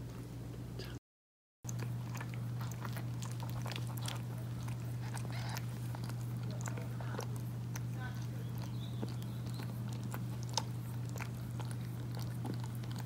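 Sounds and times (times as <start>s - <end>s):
cat licking and chewing: 1.7s - 13.0s
steady low hum: 1.7s - 13.0s.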